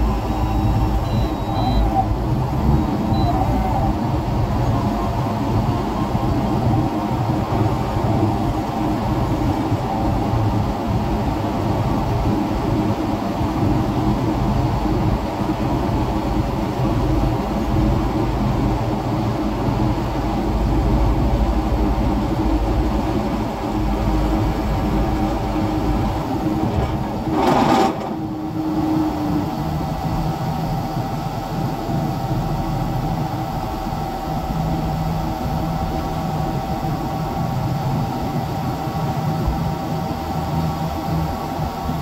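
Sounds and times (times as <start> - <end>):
diesel engine rumbling: 0.0 - 42.0.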